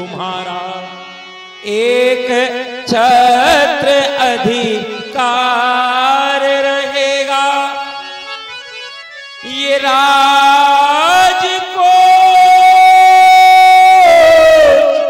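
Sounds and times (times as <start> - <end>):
man singing long held notes: 0.0 - 8.4, 9.4 - 15.0
instrumental accompaniment: 0.0 - 12.6.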